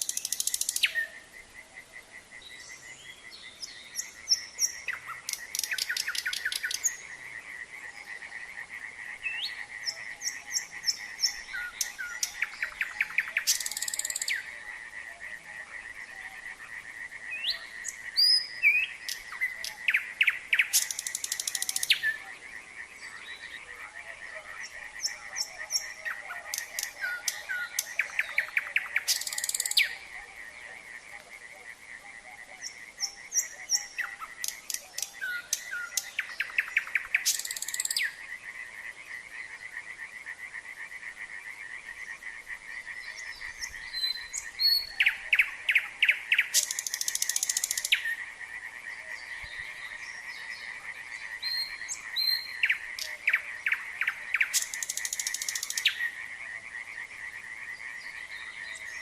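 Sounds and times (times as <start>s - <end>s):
chorus of frogs: 0.0s - 59.0s
nightingale singing: 0.0s - 59.0s.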